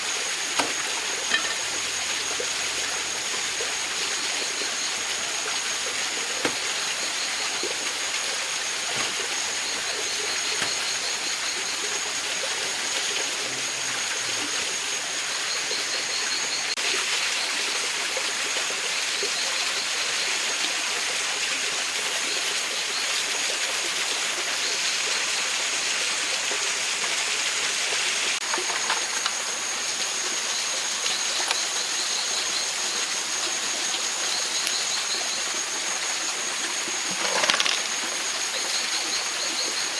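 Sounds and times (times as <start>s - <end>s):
water rushing over stones: 0.0s - 39.9s.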